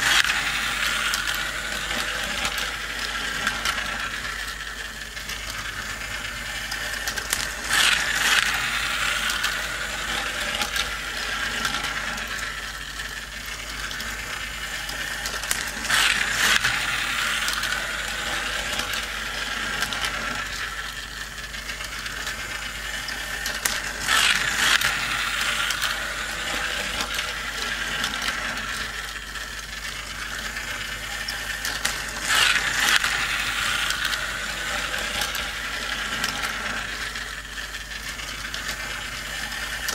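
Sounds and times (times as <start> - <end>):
toy race track motor clatter: 0.0 - 39.9.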